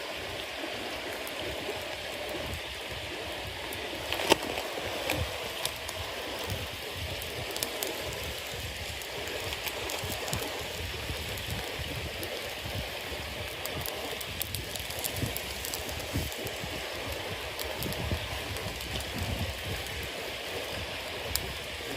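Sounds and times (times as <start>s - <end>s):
bonfire hissing and crackling: 0.0s - 21.9s.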